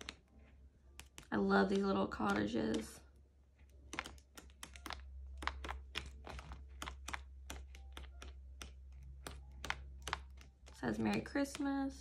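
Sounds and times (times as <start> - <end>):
paper pad clicks and taps: 0.0 - 0.2, 1.0 - 3.0, 3.8 - 12.0.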